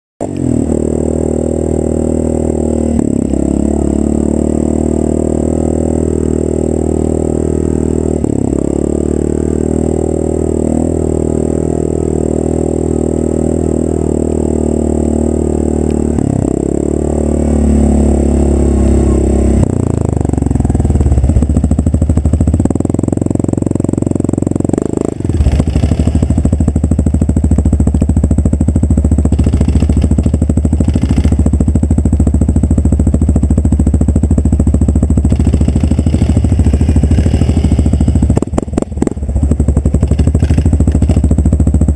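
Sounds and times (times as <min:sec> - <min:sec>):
atv engine revving: 0:00.2 - 0:41.9.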